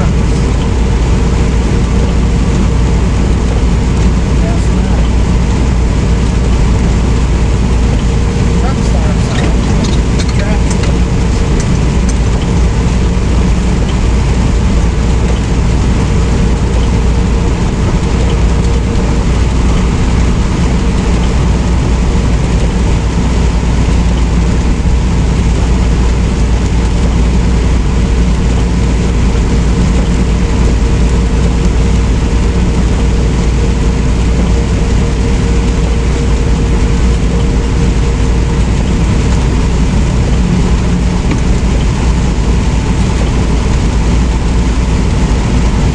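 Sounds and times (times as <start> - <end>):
road noise: 0.0 - 45.9
truck engine rumble: 0.0 - 45.9.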